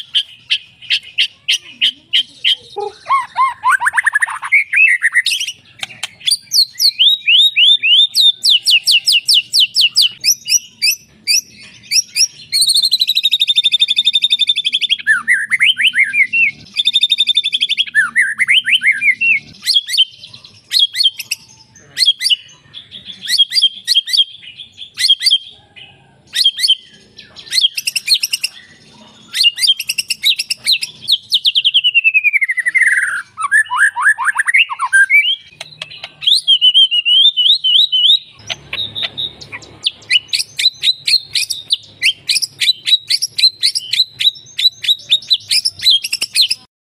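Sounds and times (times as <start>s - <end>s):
songbird trilling: 0.0s - 46.7s.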